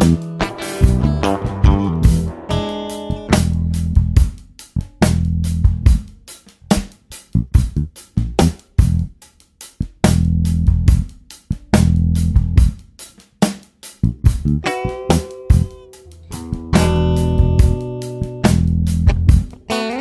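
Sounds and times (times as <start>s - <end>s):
low bass notes: 0.0s - 6.1s, 7.3s - 9.1s, 10.0s - 12.7s, 14.0s - 19.5s
drum kit beat: 0.0s - 20.0s.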